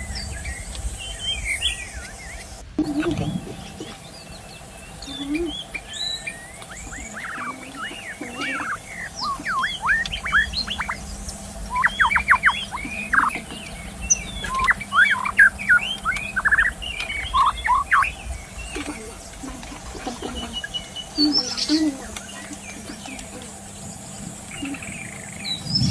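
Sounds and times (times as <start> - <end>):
bird singing whistled notes: 0.0 - 19.1, 20.3 - 25.9.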